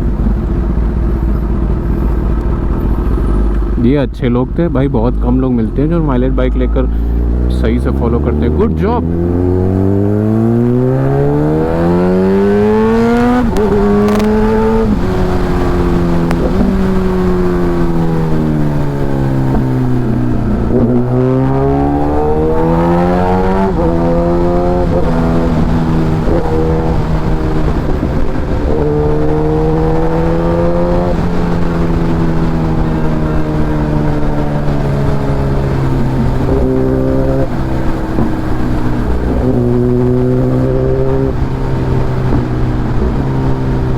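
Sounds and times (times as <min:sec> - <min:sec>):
motorcycle engine while riding: 0:00.0 - 0:03.8, 0:04.7 - 0:43.9.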